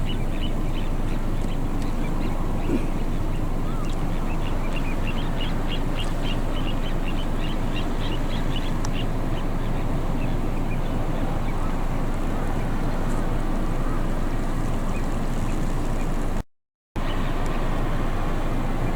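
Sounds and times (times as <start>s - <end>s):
plovers piping calls: 0.0s - 16.2s
steady low rumble: 0.0s - 16.4s.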